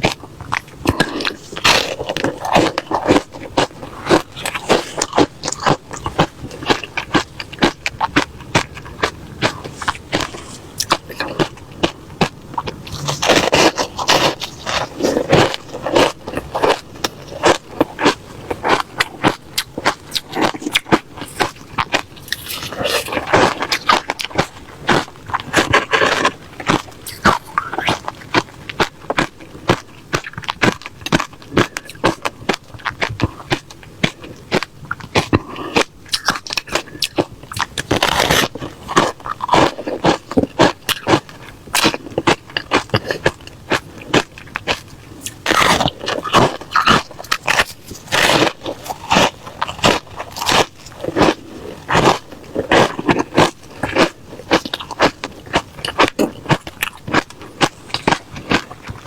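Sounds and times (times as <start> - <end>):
person chewing crushed ice: 0.0 - 59.0.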